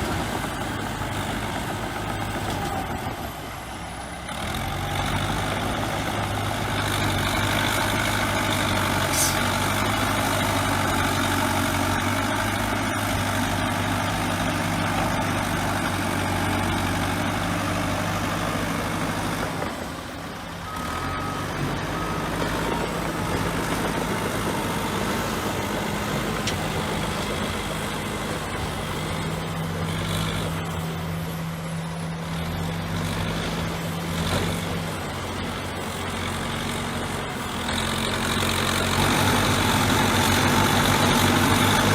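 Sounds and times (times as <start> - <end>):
bulldozer diesel engine: 0.0 - 41.9.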